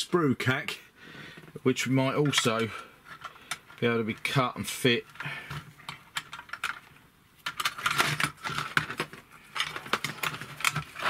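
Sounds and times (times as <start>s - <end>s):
plastic parts clicking and clattering: 1.4s - 11.0s.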